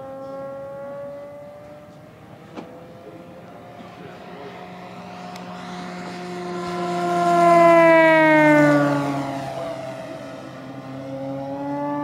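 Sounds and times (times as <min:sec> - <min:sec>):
model plane propeller whine: 0:00.0 - 0:12.0.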